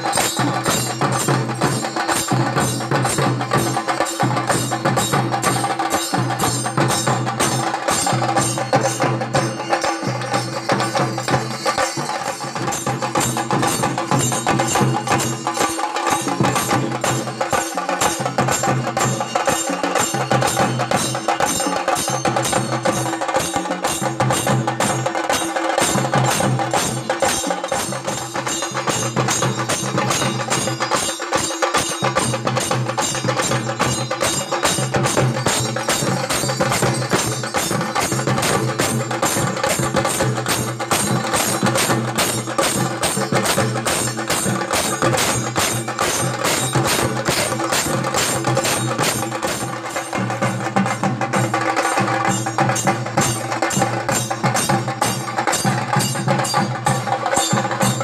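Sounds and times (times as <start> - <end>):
sharp clacking percussion beat: 0.0 - 58.0.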